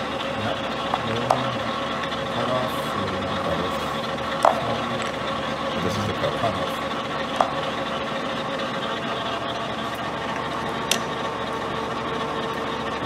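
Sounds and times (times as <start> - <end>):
lathe machine hum: 0.0 - 13.0.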